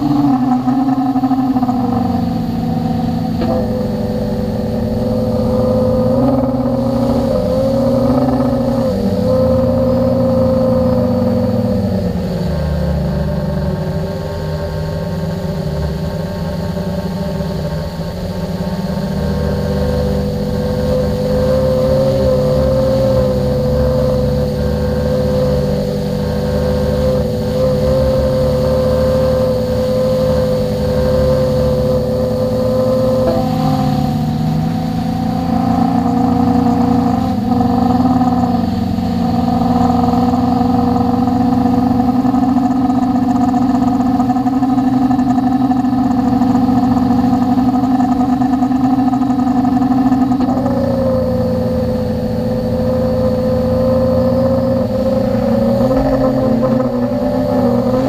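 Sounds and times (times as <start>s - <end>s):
drone propellers whining: 0.0s - 58.0s.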